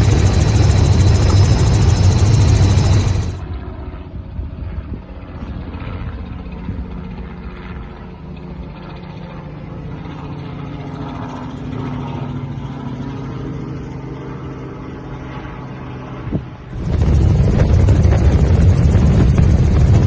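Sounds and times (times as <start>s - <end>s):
helicopter engine humming: 0.0s - 4.1s, 5.1s - 20.0s.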